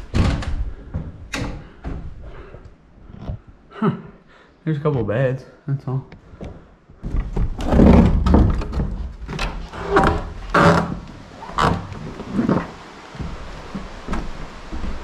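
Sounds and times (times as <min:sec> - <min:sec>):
footsteps on wooden floorboards: 0:00.0 - 0:03.5, 0:06.2 - 0:15.0.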